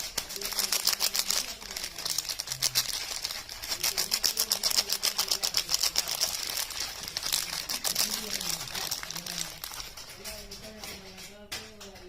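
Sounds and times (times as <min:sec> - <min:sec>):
rapid clicking and crackling: 0:00.0 - 0:12.0.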